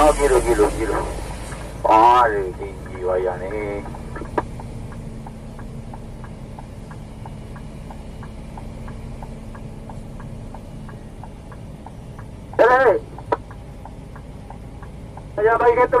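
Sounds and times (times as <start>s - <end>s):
lorry diesel engine idling: 0.0s - 16.0s
light regular ticking: 0.2s - 16.0s.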